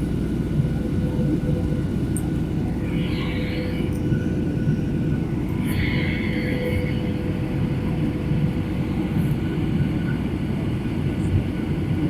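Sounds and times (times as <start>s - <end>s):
thin steady hum: 0.0s - 11.4s
faint high whine: 0.0s - 11.9s
airliner engine rumble in cabin: 0.0s - 12.0s.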